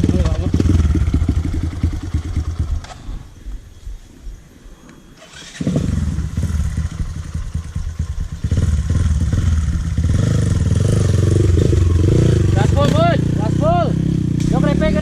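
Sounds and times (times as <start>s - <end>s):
dirt bike engine running: 0.0s - 3.2s, 5.4s - 15.0s.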